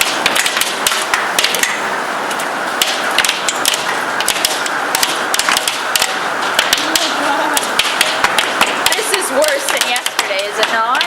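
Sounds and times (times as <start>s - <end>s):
hailstones pelting hard surfaces: 0.0s - 1.7s, 2.8s - 11.0s.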